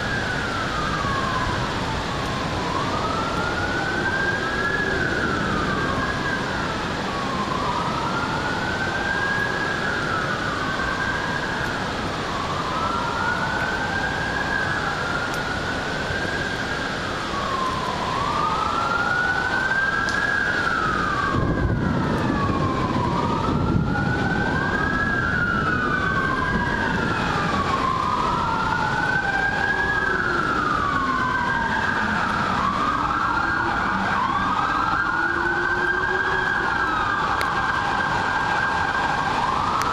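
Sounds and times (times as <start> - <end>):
distant siren wailing: 0.0 - 39.9.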